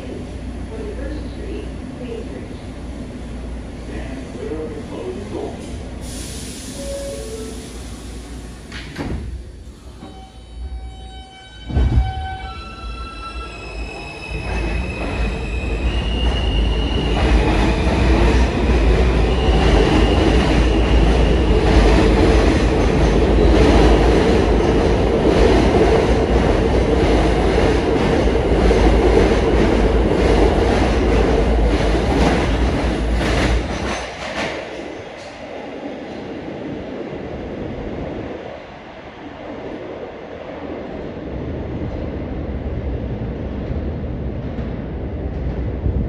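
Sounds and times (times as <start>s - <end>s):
subway train propulsion whine: 0.0s - 46.0s
train cars rumbling and clattering: 0.0s - 46.0s.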